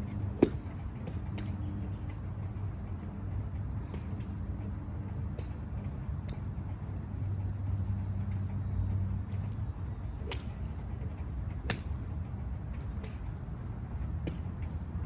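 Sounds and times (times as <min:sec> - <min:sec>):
golf clubs striking balls: 0:00.0 - 0:14.9
low engine-like hum: 0:00.0 - 0:15.0.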